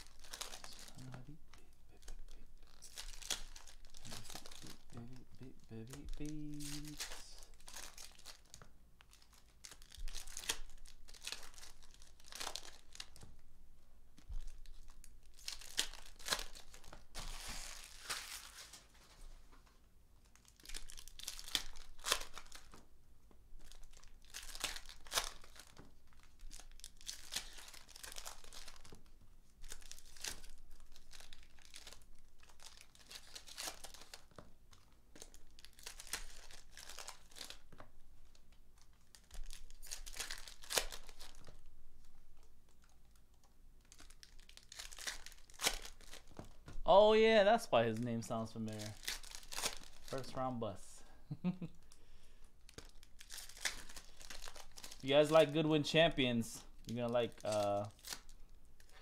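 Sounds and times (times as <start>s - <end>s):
card pack wrappers crinkling and tearing: 0.0s - 13.5s, 14.2s - 19.2s, 20.2s - 22.9s, 23.6s - 59.0s.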